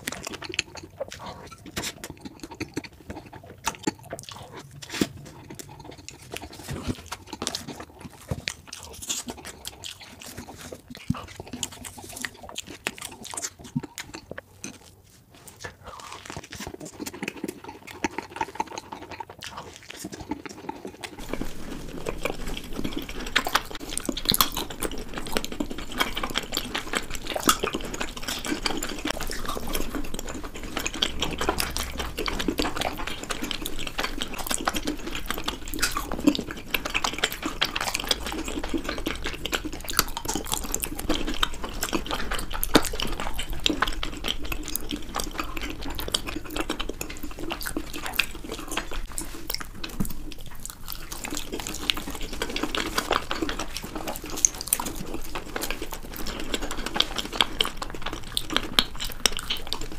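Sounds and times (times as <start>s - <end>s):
close chewing and mouth sounds: 0.0s - 59.9s.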